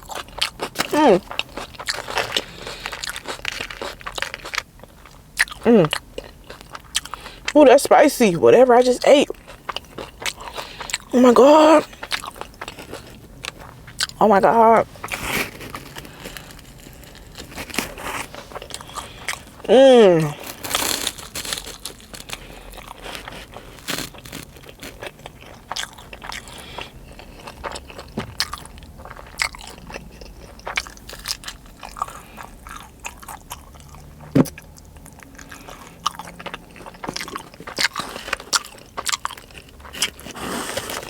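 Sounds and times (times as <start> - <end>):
person chewing crunchy food: 0.0 - 7.6, 8.6 - 41.0.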